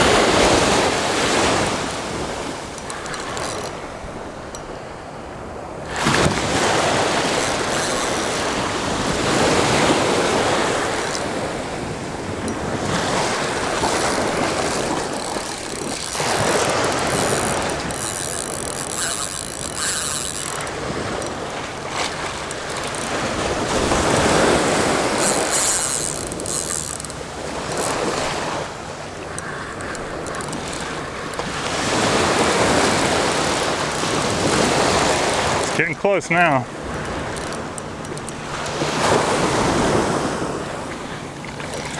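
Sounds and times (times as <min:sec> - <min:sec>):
surf waves breaking on beach: 0:00.0 - 0:41.9.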